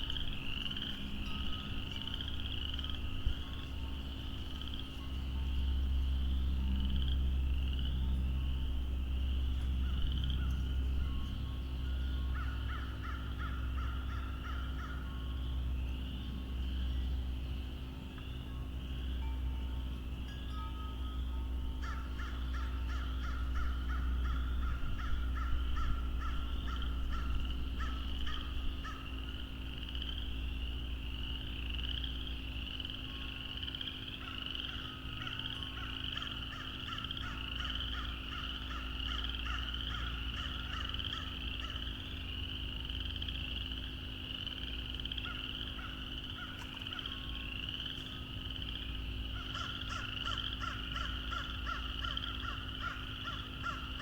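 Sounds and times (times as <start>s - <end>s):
frogs peeping: 0.0s - 20.5s, 21.2s - 54.0s
frogs pulsing trill: 0.0s - 54.0s.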